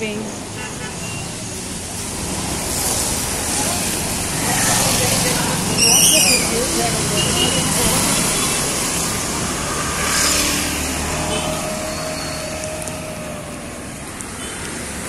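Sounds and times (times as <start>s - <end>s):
road traffic rumble: 0.0s - 15.0s
loud vehicle passing: 1.6s - 15.0s.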